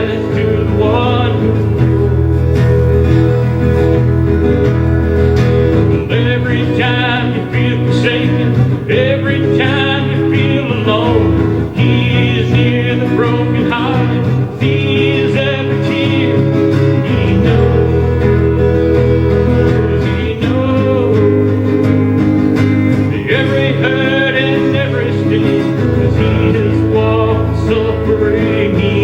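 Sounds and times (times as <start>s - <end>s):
worship song with guitar chords: 0.0s - 29.0s.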